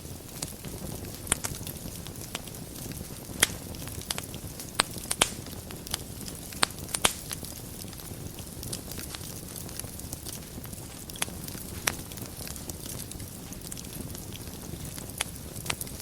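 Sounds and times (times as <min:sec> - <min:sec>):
fire crackling in fireplace: 0:00.0 - 0:16.0.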